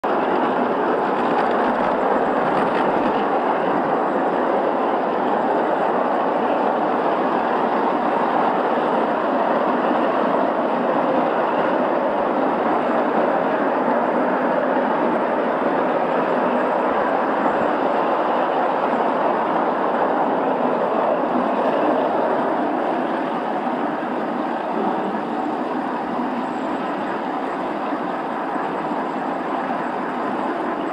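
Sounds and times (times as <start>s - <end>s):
train wheels on rails: 0.0s - 30.9s.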